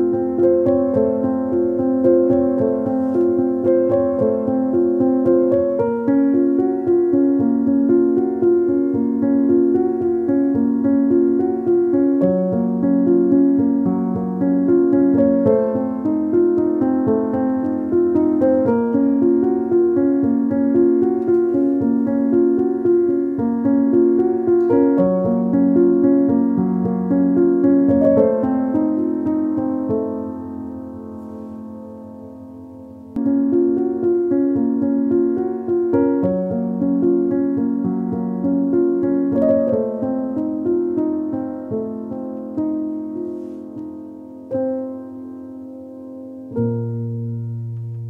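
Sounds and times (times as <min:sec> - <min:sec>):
background piano music: 0:00.0 - 0:48.0.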